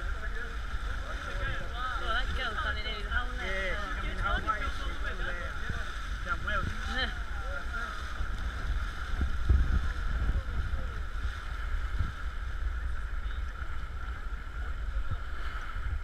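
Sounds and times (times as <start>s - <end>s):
sea water sloshing: 0.0s - 16.0s
wind buffeting camera: 0.0s - 16.0s.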